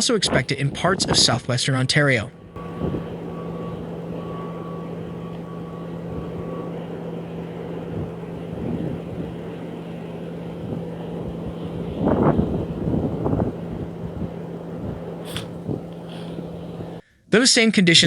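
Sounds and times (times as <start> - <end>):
motor engine droning: 0.0 - 17.0
thin high tone: 0.0 - 17.0.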